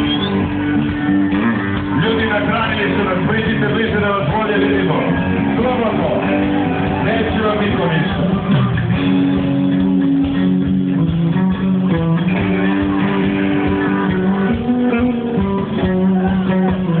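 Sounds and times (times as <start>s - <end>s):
guitar held notes: 0.0s - 17.0s
live band music: 0.0s - 17.0s.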